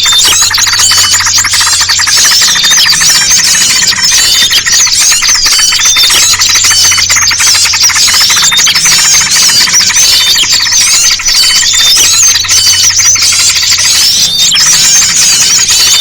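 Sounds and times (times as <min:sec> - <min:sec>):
songbirds chattering and chirping: 0:00.0 - 0:16.0.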